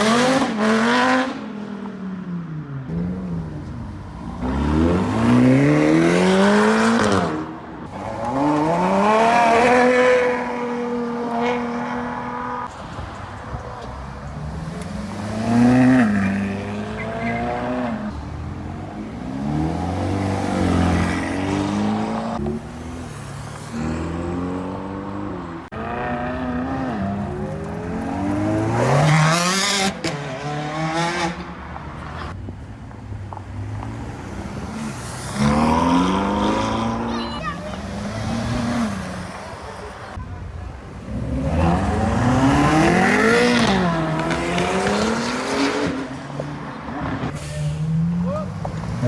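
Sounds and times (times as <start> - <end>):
sports car engines revving: 0.0 - 49.0.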